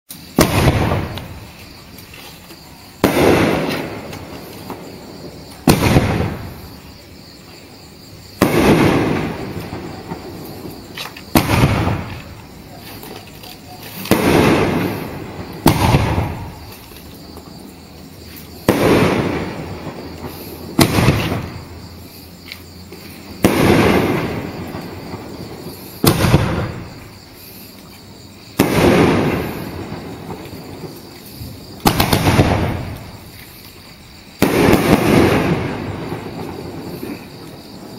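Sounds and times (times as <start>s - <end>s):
firework bangs: 0.1s - 37.9s
firework hiss: 0.1s - 37.9s.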